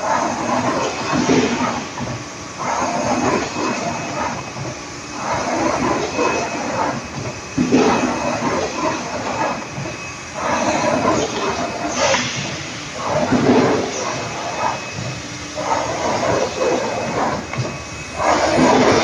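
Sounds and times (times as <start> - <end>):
faint high machine whine: 0.0 - 19.0
grooving machine hissing: 0.0 - 19.0.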